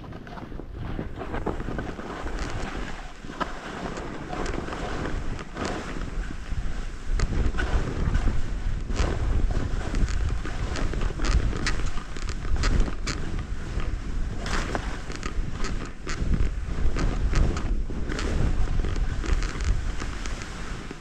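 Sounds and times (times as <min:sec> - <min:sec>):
scraping or crunching noises: 0:00.0 - 0:21.0
wind buffeting microphone: 0:00.0 - 0:21.0.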